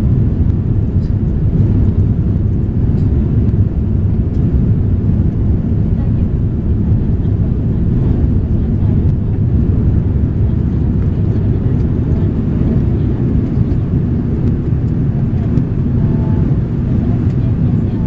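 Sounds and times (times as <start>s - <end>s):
aircraft cabin engine roar: 0.0s - 18.0s.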